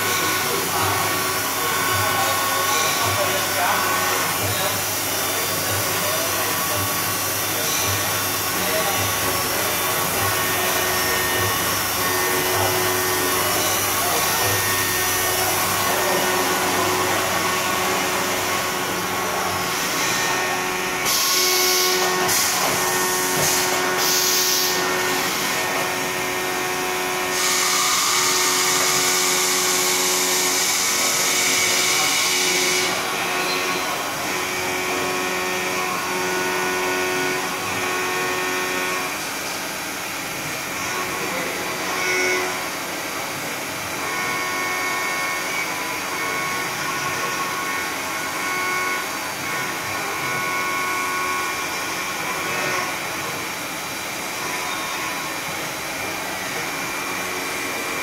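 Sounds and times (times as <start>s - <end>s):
milling machine cutting metal: 0.0s - 58.0s.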